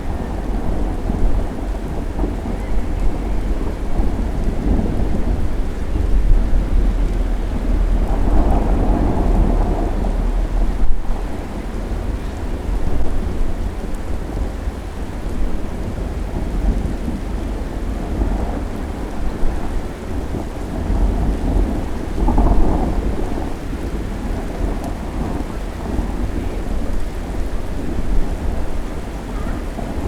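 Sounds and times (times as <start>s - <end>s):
rolling thunder: 0.0s - 30.0s
steady rain: 0.0s - 30.0s.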